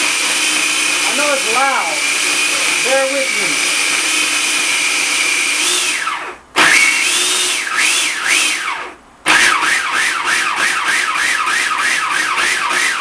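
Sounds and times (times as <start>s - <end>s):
food processor motor blending: 0.0s - 13.0s.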